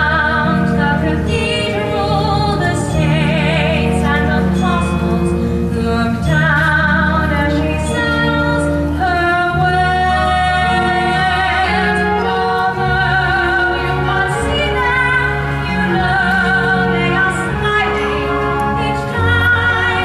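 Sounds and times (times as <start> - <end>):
woman singing with vibrato: 0.0 - 20.0.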